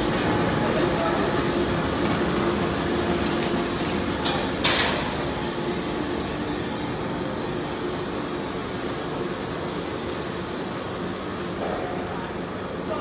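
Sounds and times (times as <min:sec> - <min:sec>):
waste shredder humming: 0:00.0 - 0:13.0.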